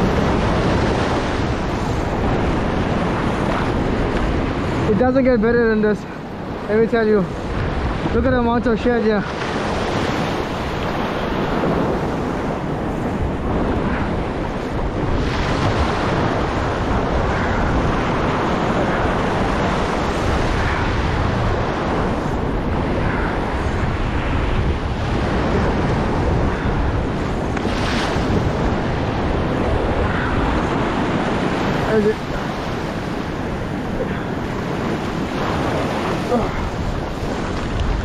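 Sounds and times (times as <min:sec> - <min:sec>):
surf breaking in shallow water: 0:00.0 - 0:38.0
wind buffeting microphone: 0:00.0 - 0:38.0.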